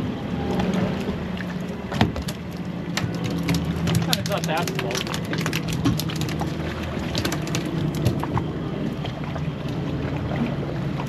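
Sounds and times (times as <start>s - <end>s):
boat low hum: 0.0s - 11.0s
water splashes: 0.0s - 11.0s.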